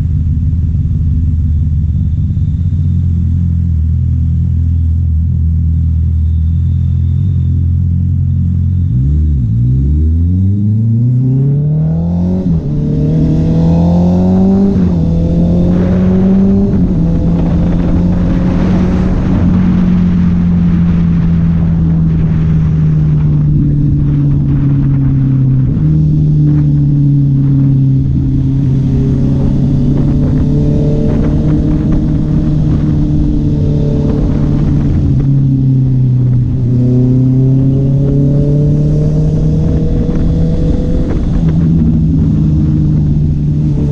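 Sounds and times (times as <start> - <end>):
motorcycle engine and exhaust: 0.0 - 43.9.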